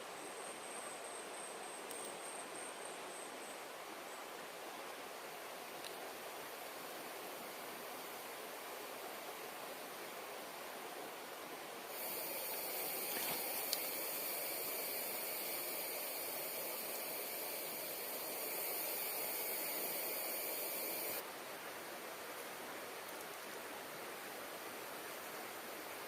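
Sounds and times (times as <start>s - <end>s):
forest stream rushing: 2.9s - 26.0s.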